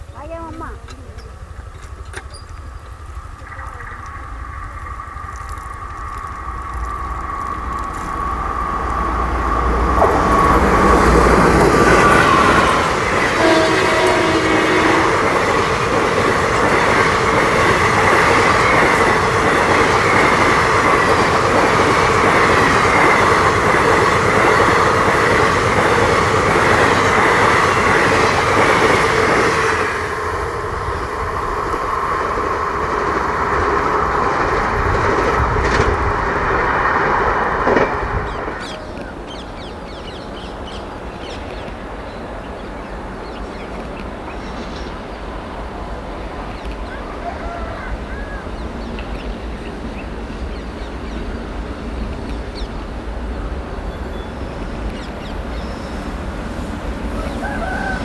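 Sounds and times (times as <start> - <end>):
locomotive deep rumble: 0.0 - 58.0
train wheels clattering on rails: 0.0 - 58.0.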